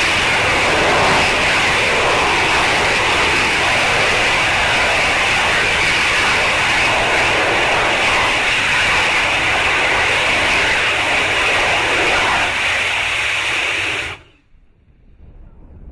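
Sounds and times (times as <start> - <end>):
rocket engine roaring: 0.0 - 14.5.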